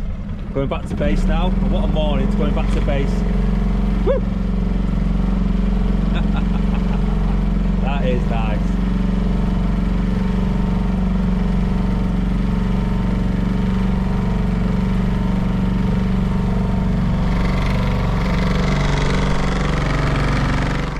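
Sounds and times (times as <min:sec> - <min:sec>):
outboard motor running: 0:00.0 - 0:20.9.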